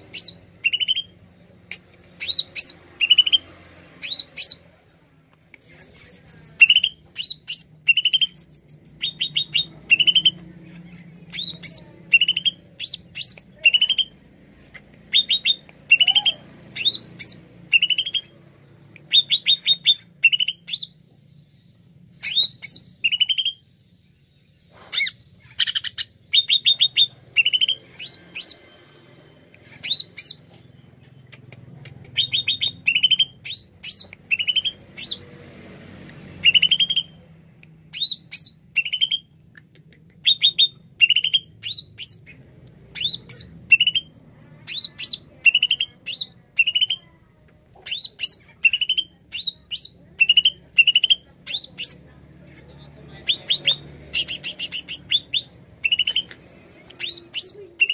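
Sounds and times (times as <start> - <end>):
caged bird singing: 0.0 - 4.8, 5.6 - 21.4, 22.0 - 57.9.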